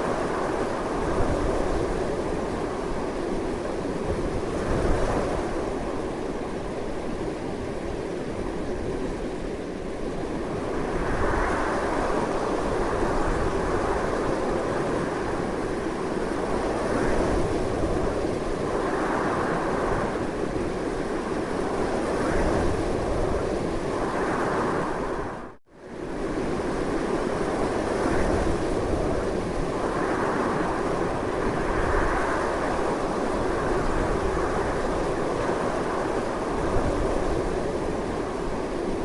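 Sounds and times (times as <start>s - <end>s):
strong wind blowing: 0.0s - 39.0s.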